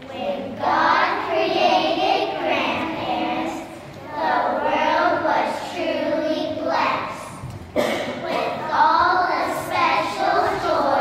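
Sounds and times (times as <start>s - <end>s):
children singing: 0.0s - 11.0s.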